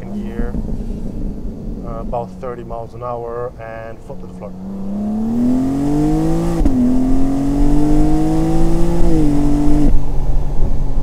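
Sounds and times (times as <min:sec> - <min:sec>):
gear upshift pitch drop: 0:00.0 - 0:10.2
car engine accelerating: 0:00.0 - 0:11.0.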